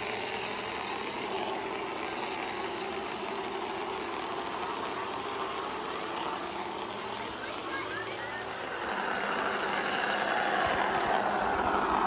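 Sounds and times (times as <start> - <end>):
model train running: 0.0 - 12.0.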